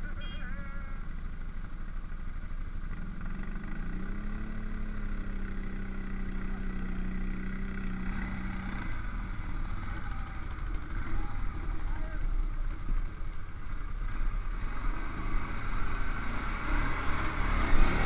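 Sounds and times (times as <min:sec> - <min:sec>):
atv engine revving: 0:00.0 - 0:18.0
atv engines running: 0:00.0 - 0:18.0.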